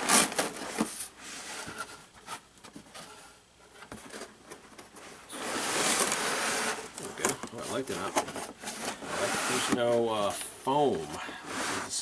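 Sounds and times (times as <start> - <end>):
cardboard scraping and rustling: 0.0 - 12.0.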